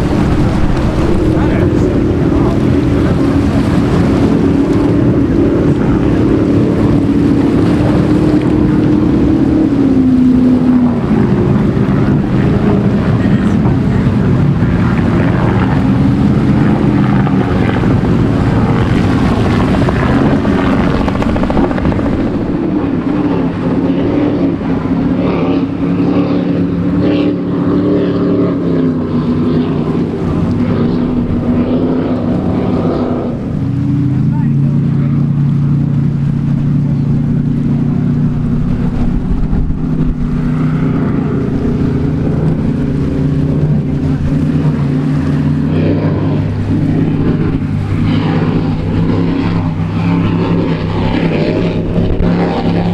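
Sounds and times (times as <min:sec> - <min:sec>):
powerboat engines droning: 0:00.0 - 0:52.9.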